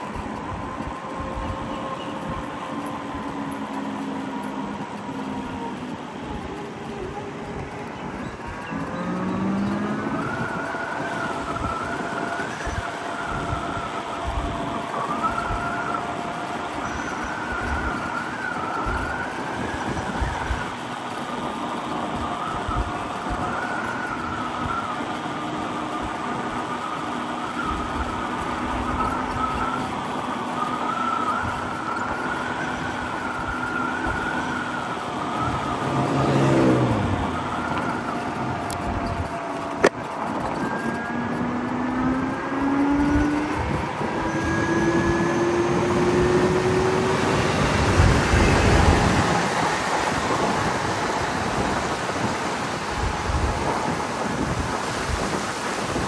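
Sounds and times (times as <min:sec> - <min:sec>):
electric motorcycle motor whine: 0:00.0 - 0:55.4
wind buffeting microphone: 0:00.0 - 0:56.0.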